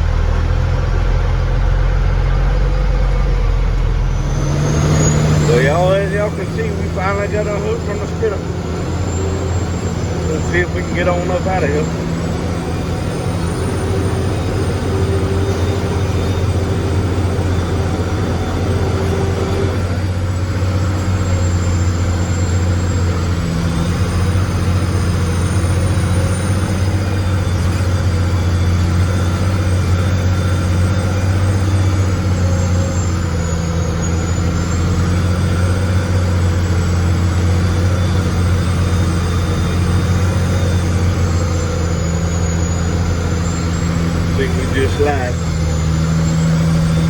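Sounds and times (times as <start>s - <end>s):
heavy engine droning: 0.0s - 47.0s.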